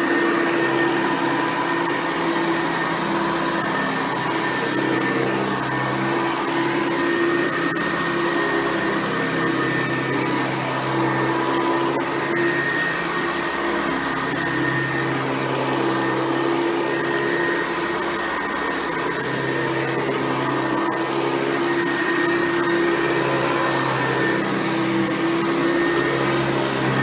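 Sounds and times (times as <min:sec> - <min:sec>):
upright vacuum cleaner running: 0:00.0 - 0:27.0.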